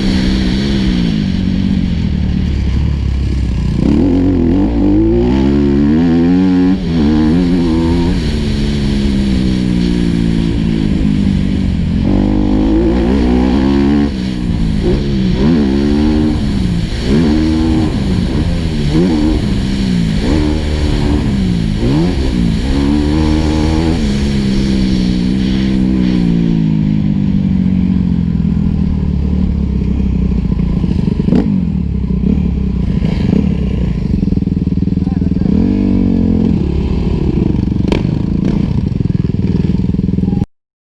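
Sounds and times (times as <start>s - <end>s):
wind noise: 0.0s - 39.6s
motocross bike engine revving: 0.0s - 40.4s.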